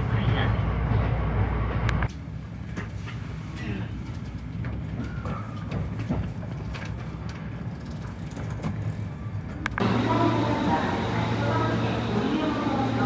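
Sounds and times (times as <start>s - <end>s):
electric train hum: 0.0s - 5.1s, 5.7s - 13.0s.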